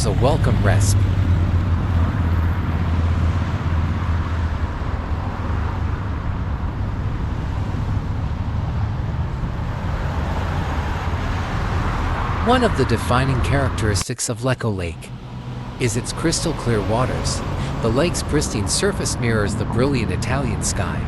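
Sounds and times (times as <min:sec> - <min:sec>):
road traffic rumble and hiss: 0:00.0 - 0:21.0.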